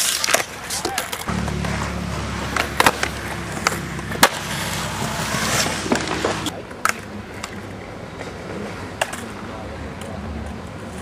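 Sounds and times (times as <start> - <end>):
skateboard clacks: 0.0 - 4.7, 5.9 - 11.0
skateboard wheels rolling on concrete: 0.0 - 11.0.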